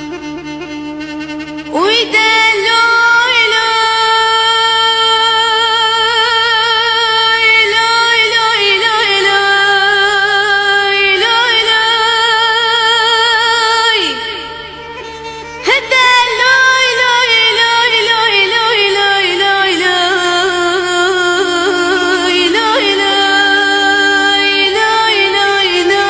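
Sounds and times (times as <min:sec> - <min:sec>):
woman singing with vibrato: 0:01.7 - 0:26.0.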